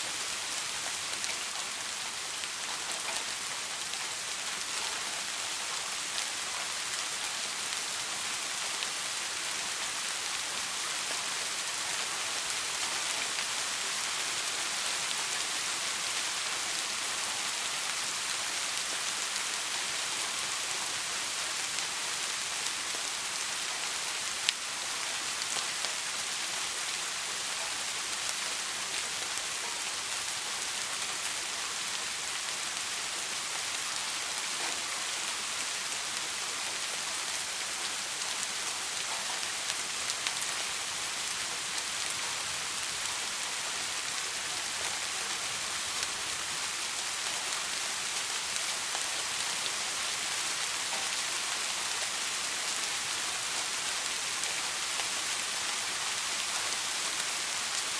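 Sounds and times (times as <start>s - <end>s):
soft rain hissing: 0.0s - 57.9s.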